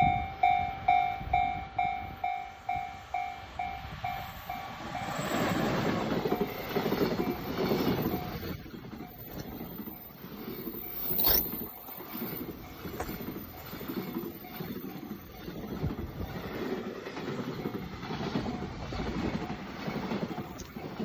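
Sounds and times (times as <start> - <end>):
freight train rumbling and clattering: 0.0 - 21.0
level-crossing alarm ringing: 0.0 - 21.0.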